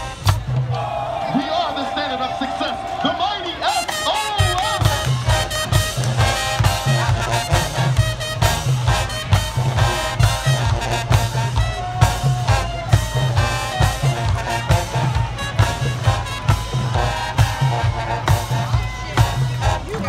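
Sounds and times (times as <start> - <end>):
low brass bass line: 0.0 - 0.8, 3.7 - 20.0
steady drum beat: 0.0 - 1.1, 3.8 - 20.0
loud brass: 0.0 - 20.0.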